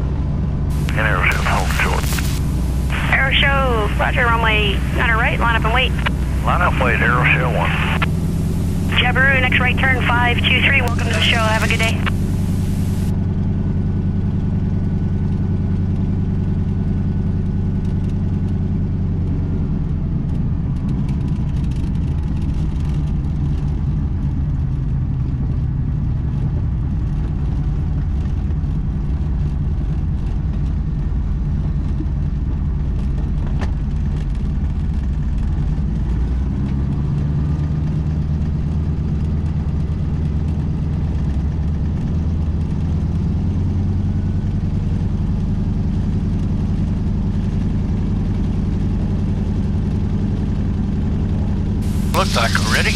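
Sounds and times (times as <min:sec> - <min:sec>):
aircraft radial engine running: 0:00.0 - 0:52.9.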